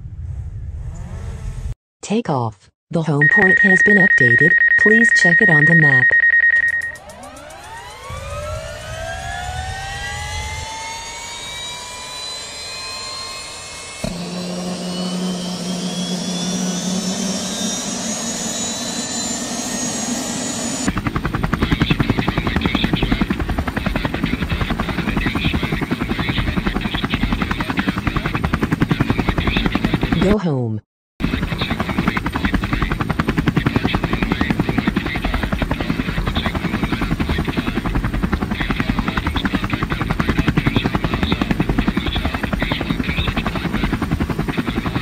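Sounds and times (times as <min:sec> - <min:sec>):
drone propellers whining and buzzing: 0:06.8 - 0:30.2, 0:31.2 - 0:45.0.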